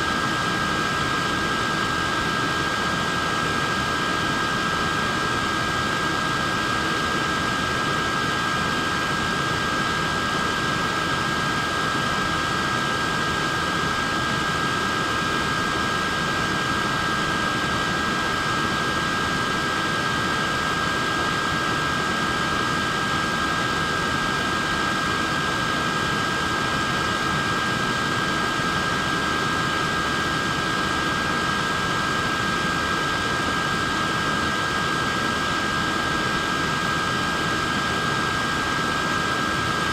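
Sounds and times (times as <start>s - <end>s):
fan motor whine: 0.0s - 39.9s.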